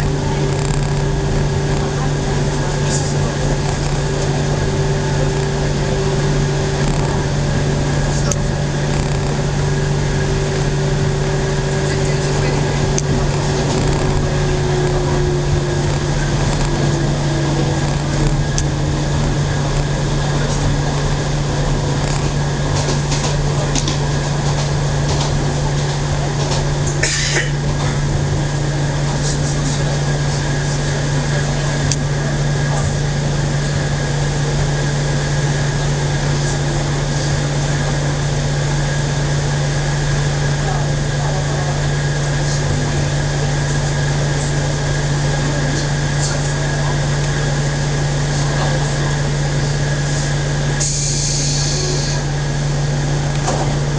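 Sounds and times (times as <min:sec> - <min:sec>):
train motor whine: 0:00.0 - 0:53.9
train rail and running noise: 0:00.0 - 0:53.9.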